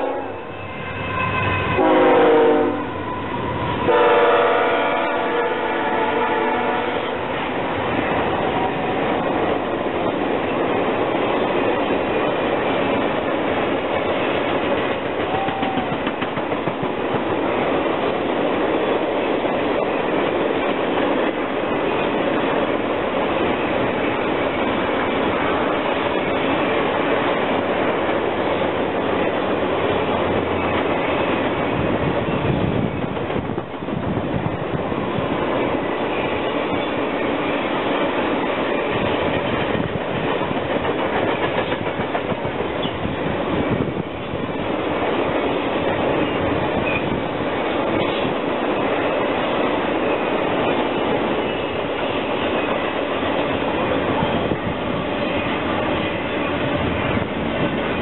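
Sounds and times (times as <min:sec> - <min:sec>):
train wheels rumbling and clattering: 0:00.0 - 0:58.0.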